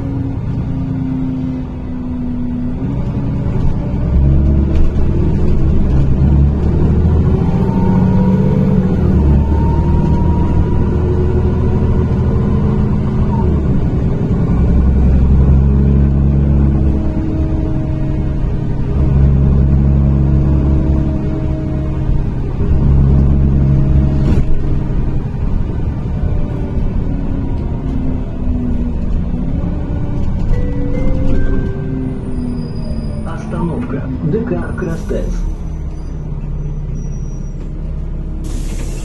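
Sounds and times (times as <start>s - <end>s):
bus engine droning: 0.0s - 39.0s.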